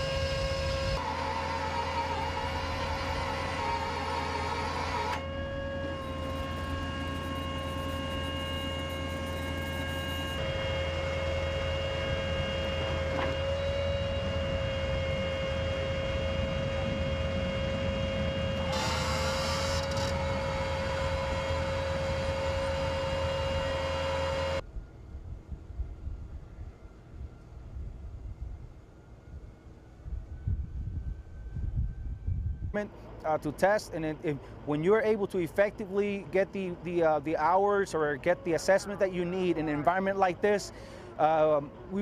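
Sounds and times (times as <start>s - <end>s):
machinery high whine: 0.0s - 42.0s
machinery low hum: 0.0s - 42.0s.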